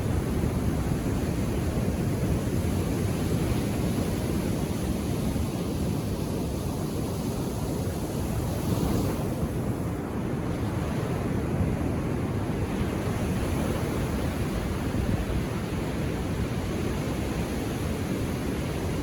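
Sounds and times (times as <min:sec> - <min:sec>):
ocean waves on beach: 0:00.0 - 0:19.0
wind on microphone: 0:00.0 - 0:19.0.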